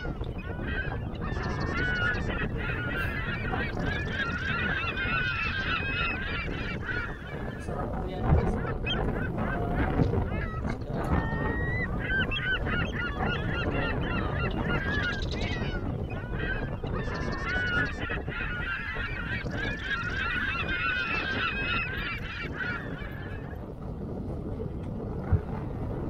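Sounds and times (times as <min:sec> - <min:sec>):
birds honking: 0:00.0 - 0:23.8
wind rumble on microphone: 0:00.0 - 0:26.0.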